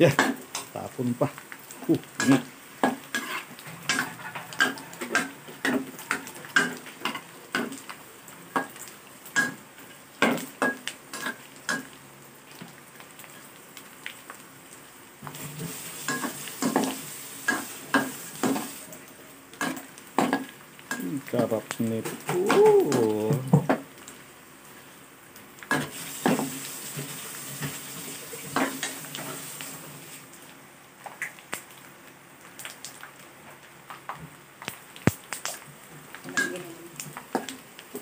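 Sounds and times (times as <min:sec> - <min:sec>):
frying oil sizzling: 0:00.0 - 0:38.0.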